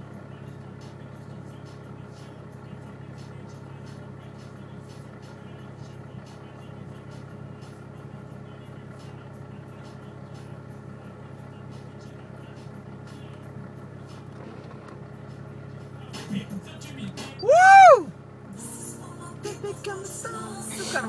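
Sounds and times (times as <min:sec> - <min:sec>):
car engine idling: 0:00.0 - 0:18.5.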